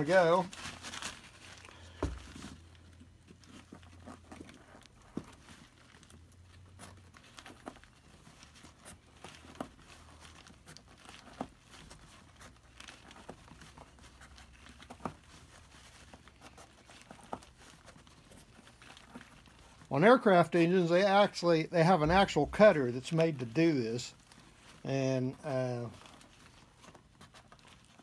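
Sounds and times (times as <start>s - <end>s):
packing paper crinkling: 0.0s - 28.0s.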